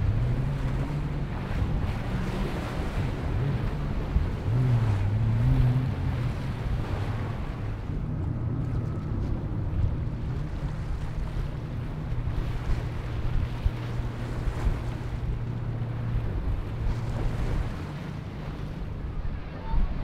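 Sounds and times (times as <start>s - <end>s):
water splashing: 0.0s - 20.0s
watercraft engine droning: 0.0s - 20.0s
wind buffeting microphone: 0.0s - 20.0s.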